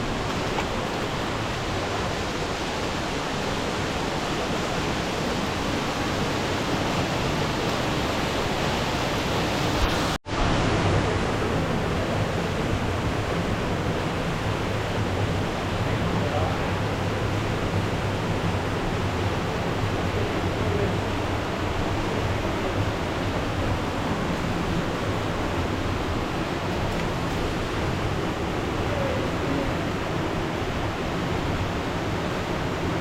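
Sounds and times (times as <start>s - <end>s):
fast-flowing water rushing: 0.0s - 33.0s.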